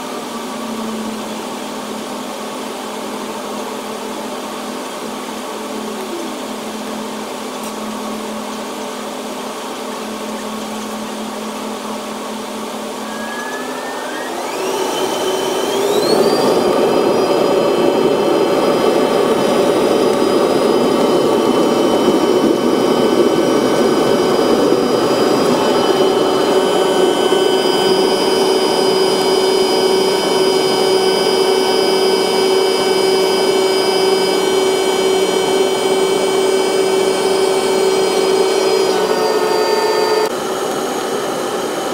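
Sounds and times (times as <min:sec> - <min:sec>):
jet engine whining at high power: 0:00.0 - 0:41.9.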